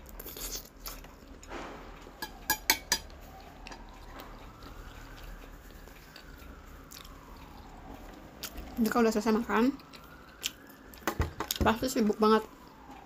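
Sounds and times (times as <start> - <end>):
person chewing: 0.0 - 8.8, 9.8 - 11.6.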